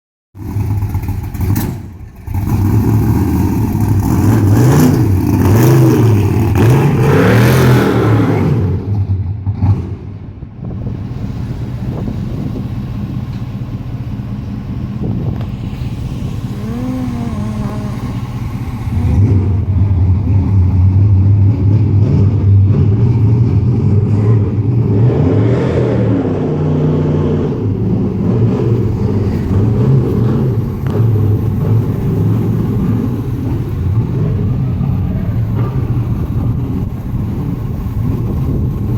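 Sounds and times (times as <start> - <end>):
car engine revving: 0.4 - 38.9.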